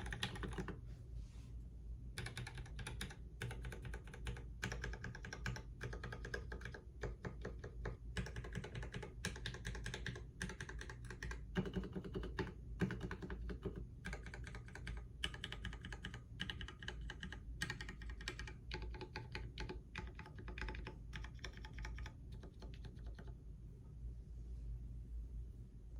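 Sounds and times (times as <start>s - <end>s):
mechanical keyboard typing clacks: 0.0s - 0.8s, 2.2s - 23.4s.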